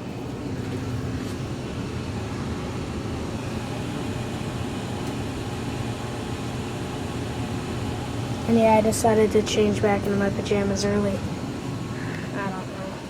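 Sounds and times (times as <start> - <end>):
gas furnace burners and blower: 0.0 - 13.0.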